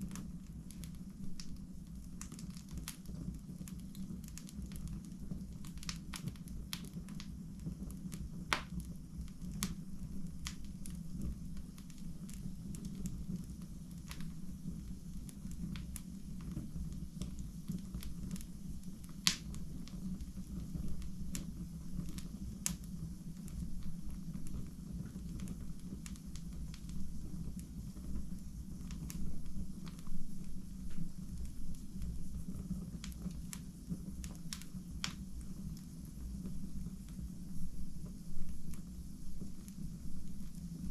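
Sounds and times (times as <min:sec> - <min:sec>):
fire crackling in fireplace: 0:00.0 - 0:40.9
sharp pops of fire: 0:00.0 - 0:40.9.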